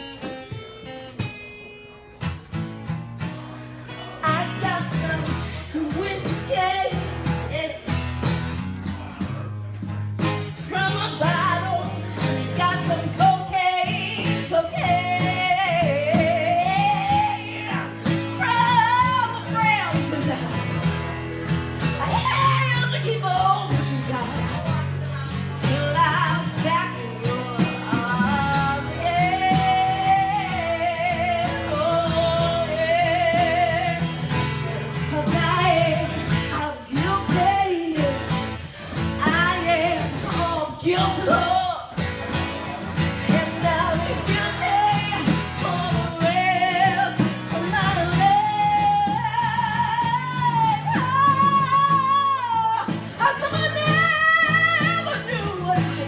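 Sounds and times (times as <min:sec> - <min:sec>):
strummed acoustic guitar: 0:00.0 - 0:56.0
woman singing with vibrato: 0:03.9 - 0:08.0, 0:10.4 - 0:20.9, 0:21.8 - 0:42.0, 0:43.0 - 0:56.0.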